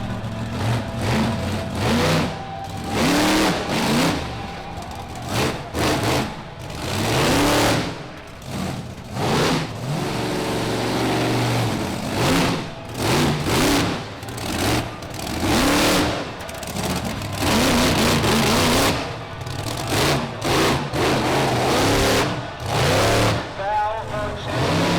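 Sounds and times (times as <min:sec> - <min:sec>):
truck engine revving: 0:00.0 - 0:24.9.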